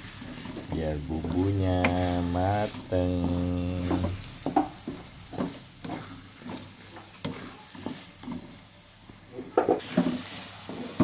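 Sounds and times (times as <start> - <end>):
paste sizzling in hot oil: 0.0 - 11.0
wooden spatula scraping wok: 0.0 - 11.0.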